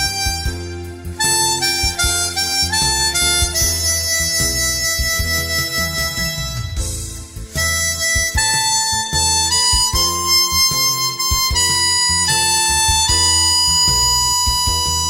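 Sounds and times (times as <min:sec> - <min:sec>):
harmonica melody: 0:00.0 - 0:15.0
low accompaniment: 0:00.0 - 0:15.0.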